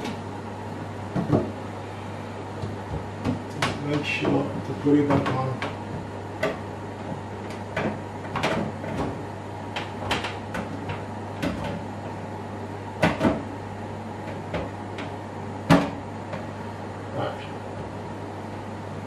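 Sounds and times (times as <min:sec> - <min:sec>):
extractor fan humming: 0:00.0 - 0:19.0.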